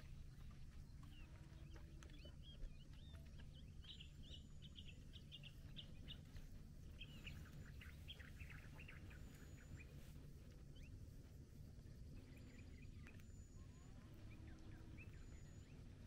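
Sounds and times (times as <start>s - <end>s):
low steady rumble: 0.0s - 16.0s
small birds chirping: 0.0s - 16.0s.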